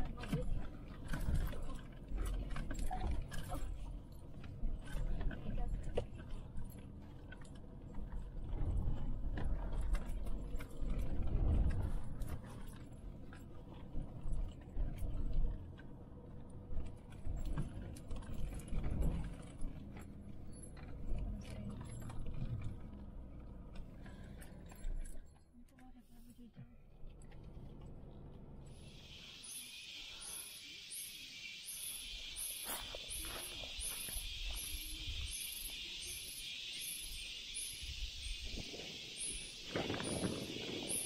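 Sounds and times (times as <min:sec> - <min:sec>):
car rumbling over gravel track: 0:00.0 - 0:25.1, 0:27.0 - 0:41.0.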